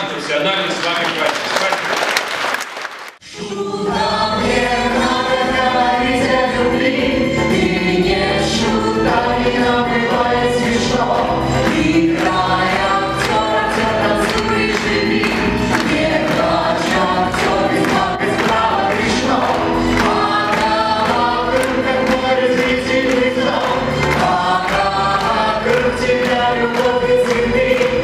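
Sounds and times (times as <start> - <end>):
rhythmic clapping: 0.0 - 3.2, 4.5 - 28.0
chorus of voices: 3.2 - 28.0
orchestral accompaniment: 3.2 - 28.0.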